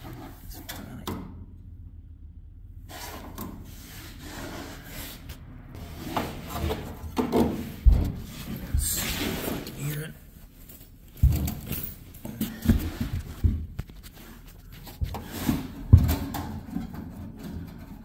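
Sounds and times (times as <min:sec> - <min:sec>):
rubbing and handling noises: 0:02.9 - 0:18.0.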